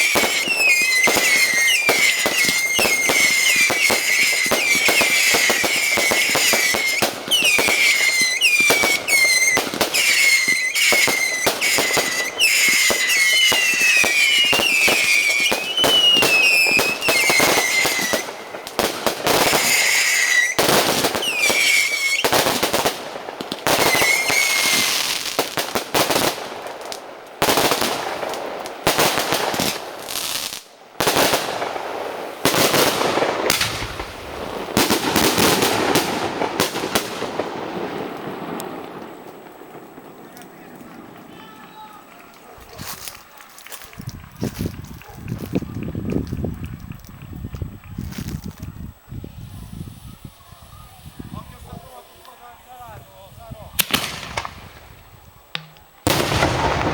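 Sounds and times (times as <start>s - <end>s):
crackling explosions: 0.0s - 56.9s
firework cracking bangs: 0.0s - 56.9s
whistling firework shells: 0.0s - 56.9s.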